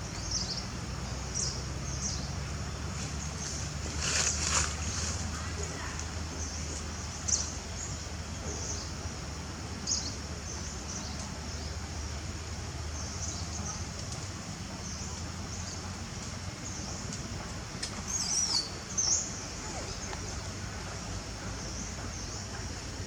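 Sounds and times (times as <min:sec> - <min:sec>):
steady low outdoor hum: 0:00.0 - 0:23.0.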